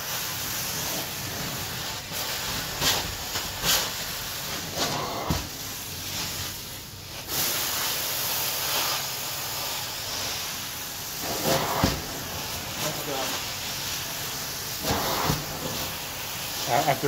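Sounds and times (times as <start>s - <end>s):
extraction wand hissing: 0.0s - 17.0s.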